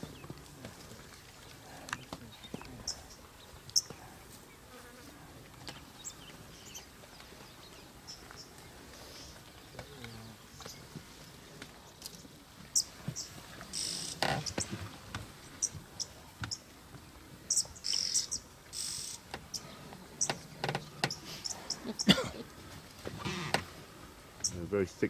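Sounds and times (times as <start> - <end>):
birds chirping: 0.0 - 4.8, 5.4 - 23.7, 24.4 - 25.0.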